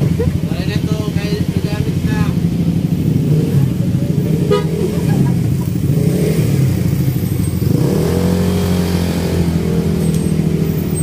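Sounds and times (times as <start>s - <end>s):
motorcycle engines idling: 0.0s - 11.0s.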